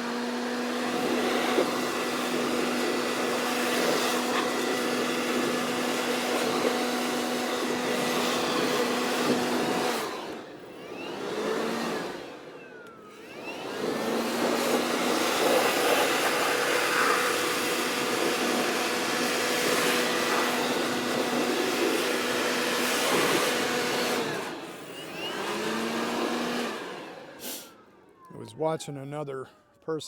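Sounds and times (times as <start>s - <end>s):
leaf blower running: 0.0s - 28.4s.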